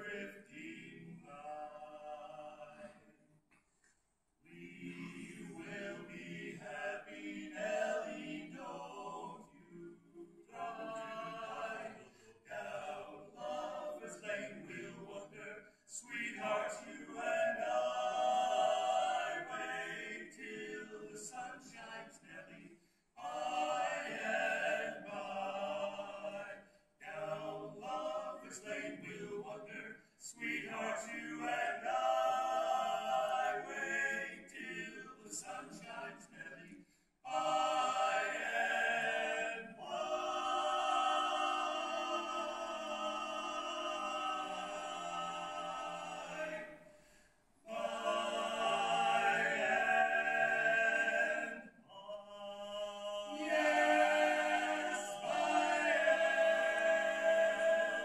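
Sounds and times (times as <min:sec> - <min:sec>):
male vocal quartet singing: 0:00.0 - 0:03.0, 0:04.4 - 0:46.9, 0:47.6 - 0:58.0.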